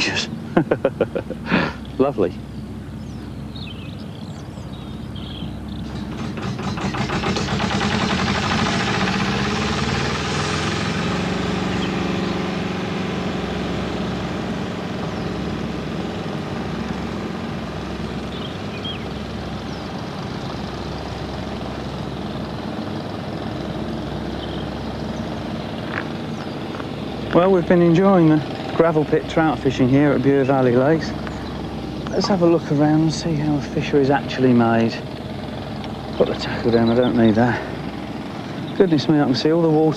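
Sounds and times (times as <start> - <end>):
heavy machinery engine rattling: 0.0 - 39.9.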